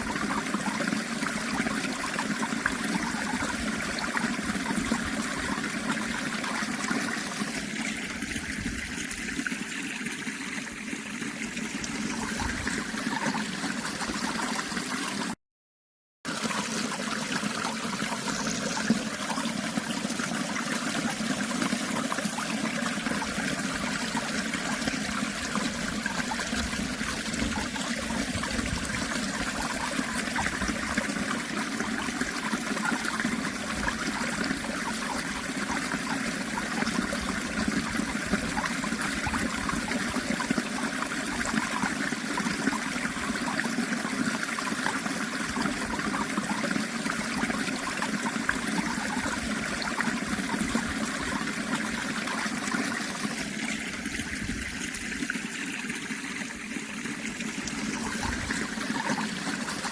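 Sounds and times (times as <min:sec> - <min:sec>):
small stream trickling: 0:00.0 - 0:15.4, 0:16.3 - 0:59.9.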